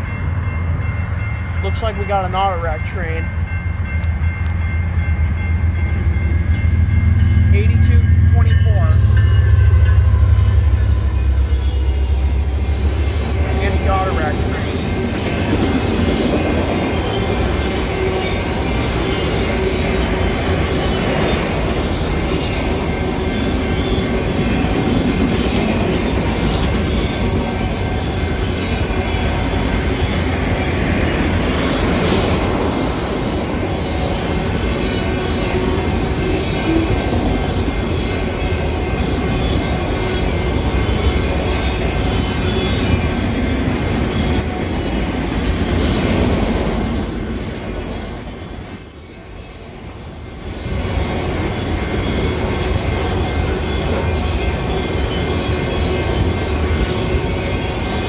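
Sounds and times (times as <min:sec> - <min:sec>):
freight train cars rolling on rails: 0:00.0 - 0:58.0.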